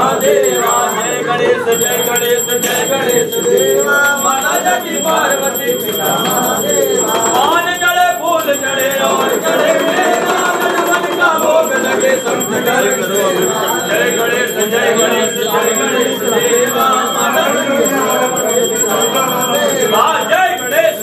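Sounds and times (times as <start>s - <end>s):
group chanting: 0.0s - 21.0s
temple bell ringing: 0.0s - 21.0s.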